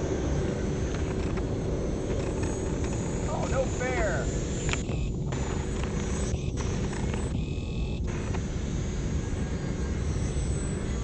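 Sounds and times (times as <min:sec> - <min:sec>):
electric model planes droning: 0:00.0 - 0:11.0.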